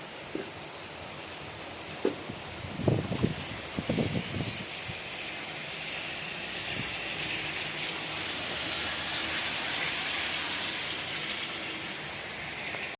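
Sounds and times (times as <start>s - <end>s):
heavy rain hissing: 0.0s - 12.9s.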